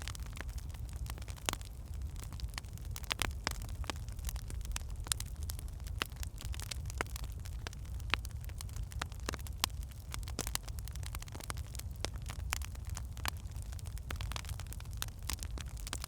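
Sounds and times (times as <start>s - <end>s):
firewood crackling and popping: 0.0s - 16.0s
low fire rumble: 0.0s - 16.0s.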